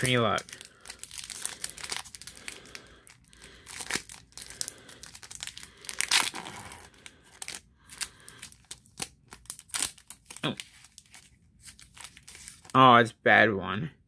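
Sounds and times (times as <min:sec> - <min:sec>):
foil wrapper tearing and crinkling: 0:00.0 - 0:12.8.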